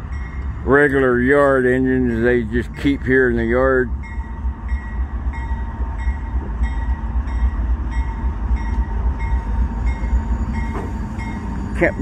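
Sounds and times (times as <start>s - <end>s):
diesel locomotive engine rumbling: 0.0s - 12.0s
locomotive bell ringing: 0.0s - 12.0s.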